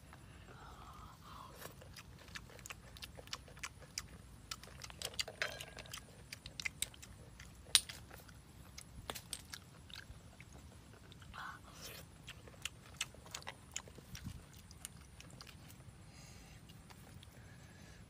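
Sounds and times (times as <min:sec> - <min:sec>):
chewing and mouth smacks: 0:01.5 - 0:16.0, 0:16.6 - 0:17.5.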